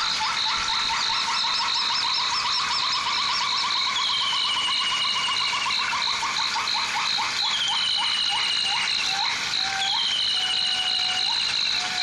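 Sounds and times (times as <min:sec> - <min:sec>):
falling whistled calls: 0:00.0 - 0:12.0
insect tone pulsing: 0:00.0 - 0:12.0.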